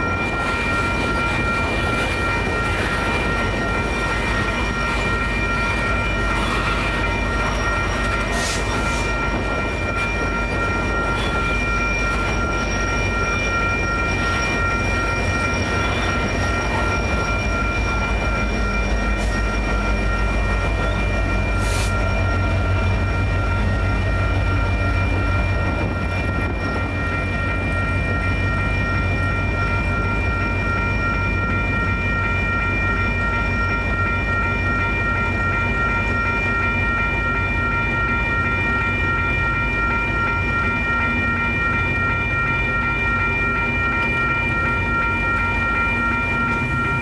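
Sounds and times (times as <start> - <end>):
crossing signal bells ringing: 0.0 - 47.0
diesel locomotive engine drone: 0.0 - 47.0.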